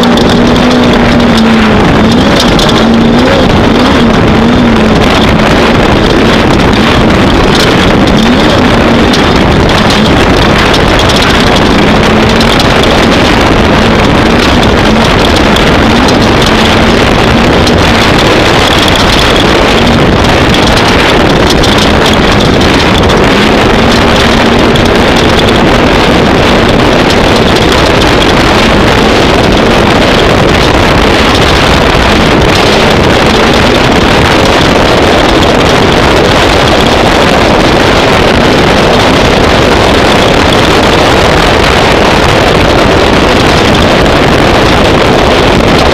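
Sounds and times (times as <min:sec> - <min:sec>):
race vehicle engine drone: 0:00.0 - 0:45.9
wind noise on microphone: 0:00.0 - 0:45.9.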